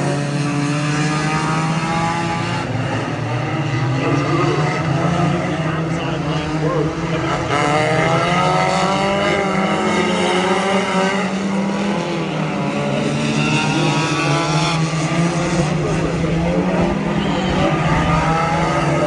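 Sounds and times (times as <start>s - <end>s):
race car engines at speed: 0.0s - 19.0s.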